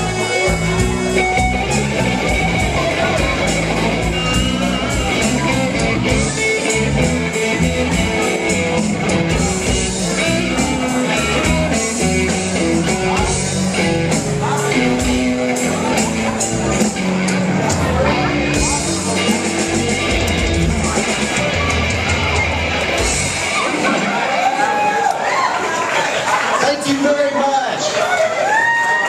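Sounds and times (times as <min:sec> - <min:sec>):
electric guitar lead bending notes: 0:00.0 - 0:24.4
bass guitar: 0:00.0 - 0:25.4
drums: 0:00.0 - 0:27.1.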